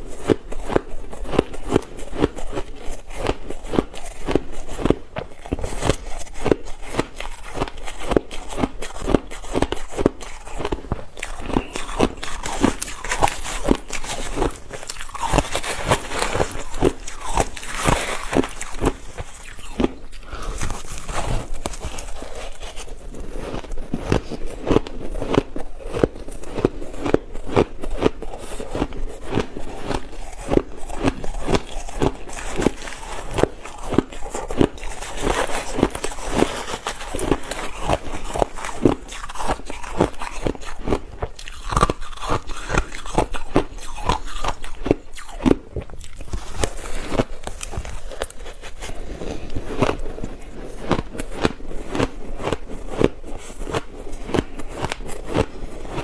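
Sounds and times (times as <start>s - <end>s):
person chewing ice: 0.0s - 56.0s.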